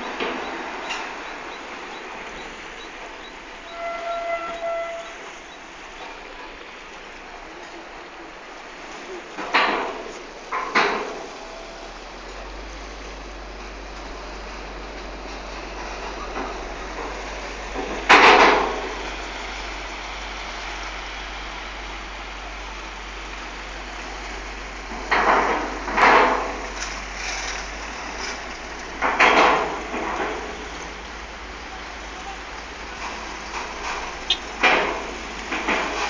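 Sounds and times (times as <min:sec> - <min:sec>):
wheels clanking over steel ramp: 0:00.0 - 0:07.8, 0:08.8 - 0:36.0.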